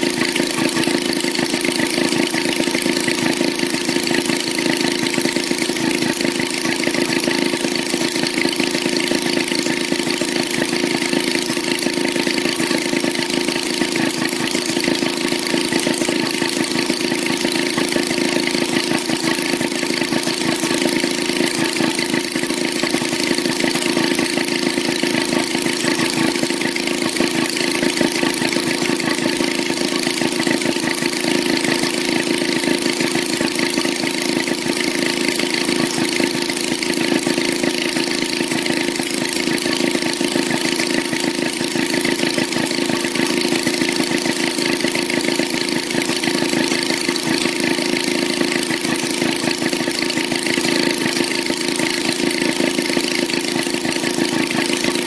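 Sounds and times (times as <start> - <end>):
two-stroke engine running: 0.0 - 55.0.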